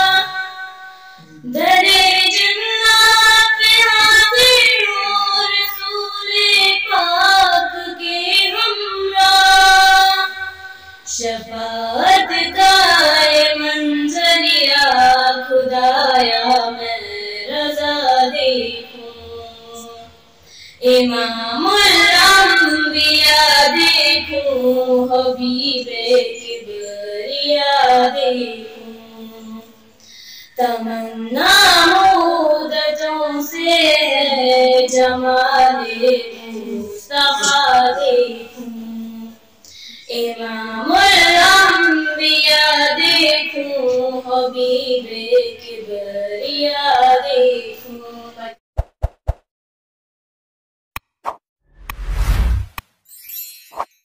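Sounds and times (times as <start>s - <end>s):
girl singing into a microphone: 0.0s - 48.6s.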